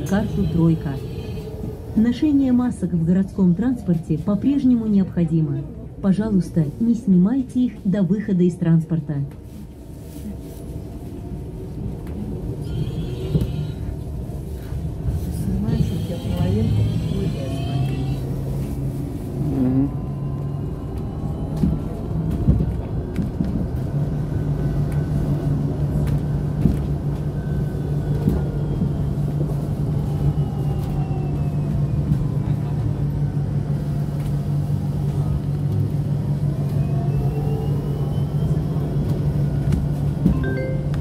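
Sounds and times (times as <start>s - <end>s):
bus cabin hum and road rumble: 0.0s - 41.0s.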